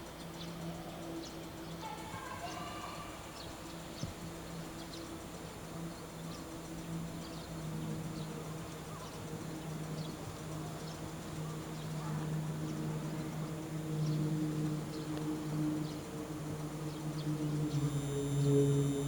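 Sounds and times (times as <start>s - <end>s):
train machinery humming: 0.0s - 19.0s.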